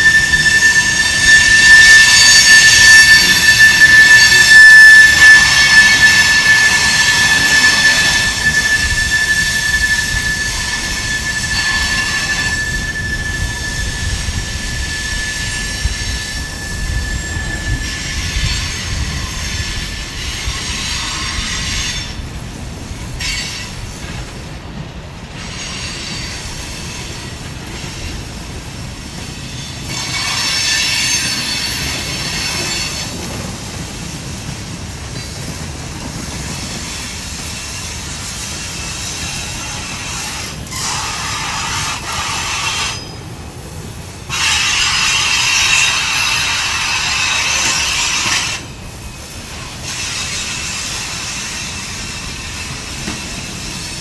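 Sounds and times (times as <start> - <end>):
high wheel squeal: 0.0 - 22.3, 25.4 - 28.4, 29.1 - 33.5, 35.1 - 43.4, 44.3 - 54.0
train wheels clattering over rail: 0.0 - 54.0.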